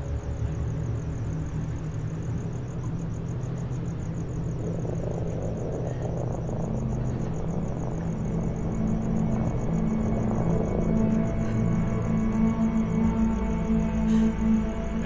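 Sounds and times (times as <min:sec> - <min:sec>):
deep rumbling drone: 0:00.0 - 0:15.0
ominous horror music: 0:00.0 - 0:15.0.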